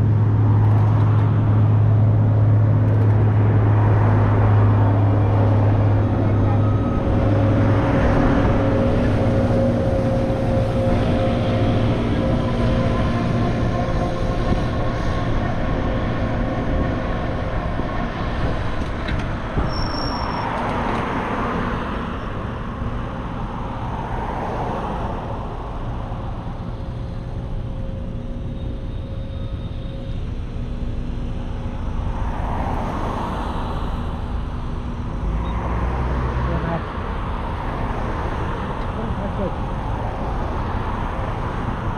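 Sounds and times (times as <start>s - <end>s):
steady engine hum: 0.0s - 41.9s
vehicles passing: 0.0s - 41.9s.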